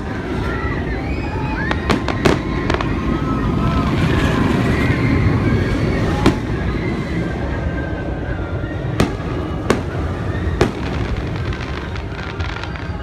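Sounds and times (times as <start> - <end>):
fireworks rumbling bursts: 0.0 - 13.0.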